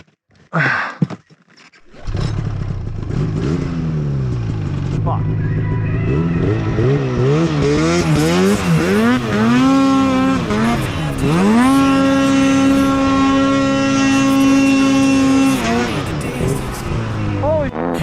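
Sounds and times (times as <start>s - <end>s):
snowmobile engine revving: 1.9s - 18.0s.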